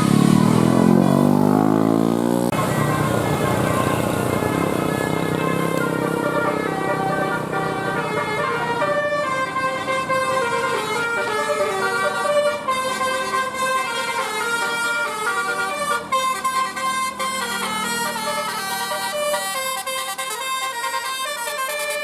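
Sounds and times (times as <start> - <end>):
multi-tone bus horn tune: 0.0 - 22.0.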